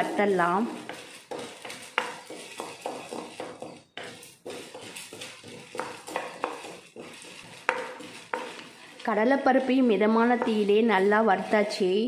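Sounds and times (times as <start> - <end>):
spatula scraping pan: 0.0 - 12.0
dry lentils rattling: 0.2 - 11.8.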